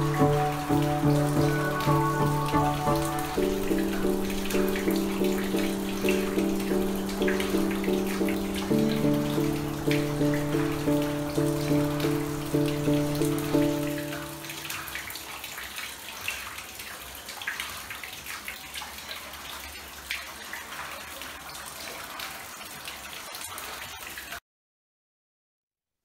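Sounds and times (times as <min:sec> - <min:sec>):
water trickling and dripping: 0:00.0 - 0:24.4.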